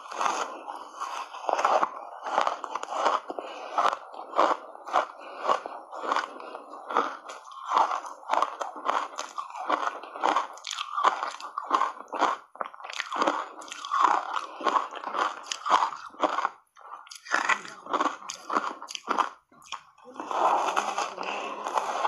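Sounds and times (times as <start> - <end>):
crisp crunching of chewed ice: 0.0 - 22.0.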